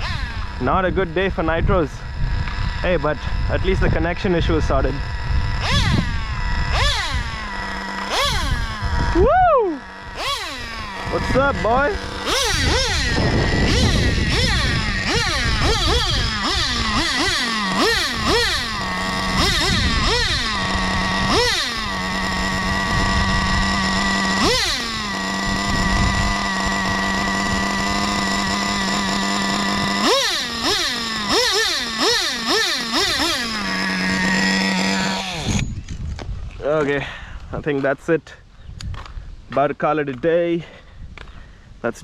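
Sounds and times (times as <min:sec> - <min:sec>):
nitro engine idling and revving: 0:00.0 - 0:36.0.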